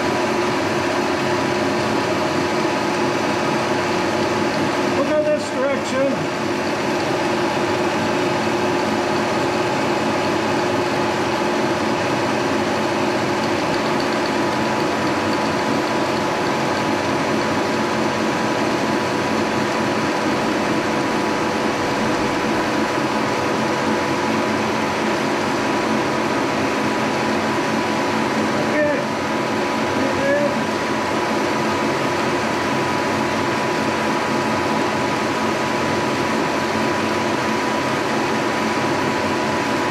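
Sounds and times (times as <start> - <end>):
milling machine running: 0.0 - 39.9
steady machine whine: 0.0 - 39.9.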